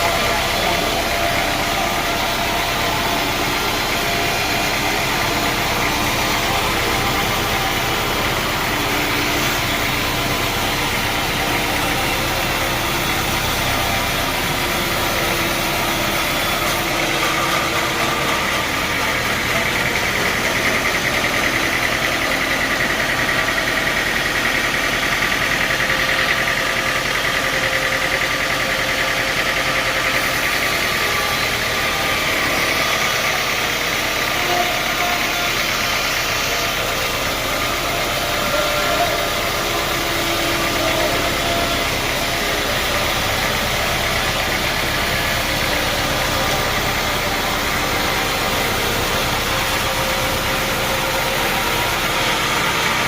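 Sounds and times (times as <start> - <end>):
high machine whine: 0.0 - 53.0
sawmill machinery running: 0.0 - 53.0.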